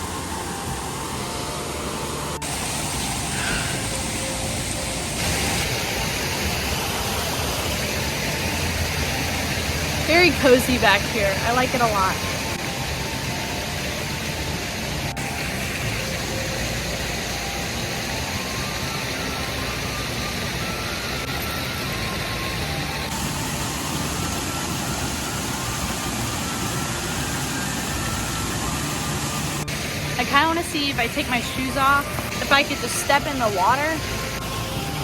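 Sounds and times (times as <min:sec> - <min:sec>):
waterfall and stream rushing: 0:00.0 - 0:35.0.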